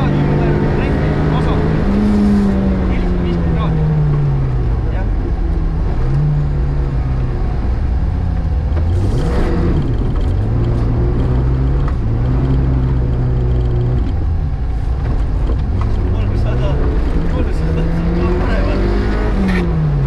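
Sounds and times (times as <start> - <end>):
car engine revving hard: 0.0 - 14.2, 15.6 - 20.0.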